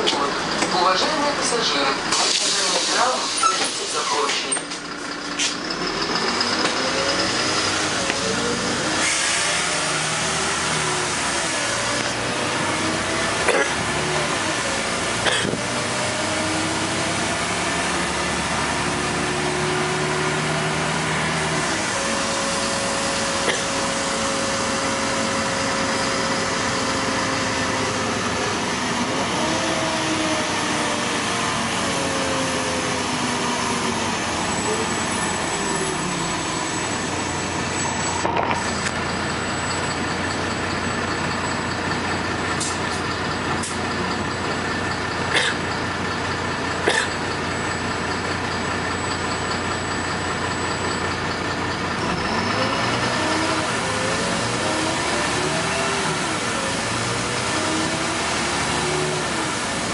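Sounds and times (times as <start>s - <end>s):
bus engine hum: 0.0s - 59.9s.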